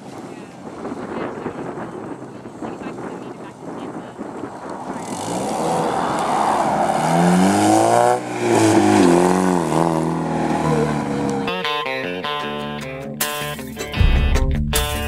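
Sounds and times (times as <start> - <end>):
race car engine revving: 0.7 - 12.8.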